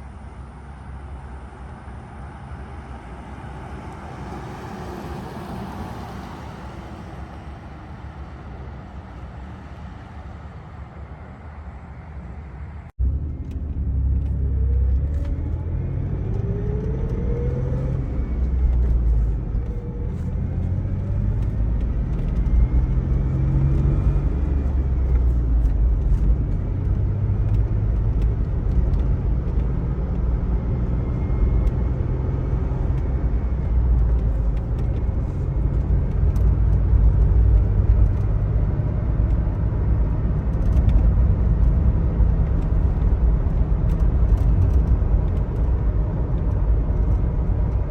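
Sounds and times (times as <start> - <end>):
truck engine accelerating: 0.1 - 47.9.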